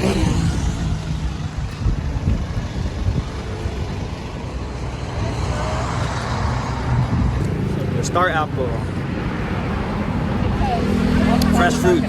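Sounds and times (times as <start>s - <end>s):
vehicle rumbling on road: 0.0s - 12.0s.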